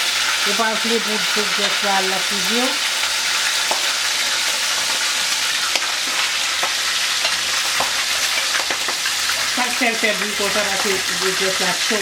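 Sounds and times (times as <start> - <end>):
grease popping and crackling: 0.0 - 12.0
meat sizzling in hot oil: 0.0 - 12.0.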